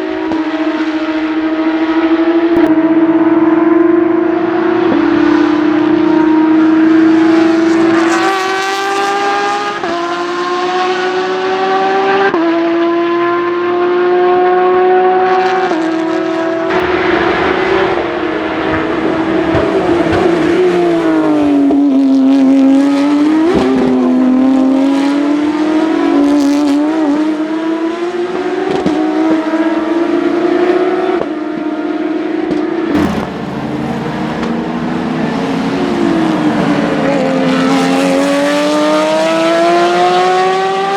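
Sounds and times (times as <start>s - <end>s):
racing car engine at full throttle: 0.0s - 40.9s.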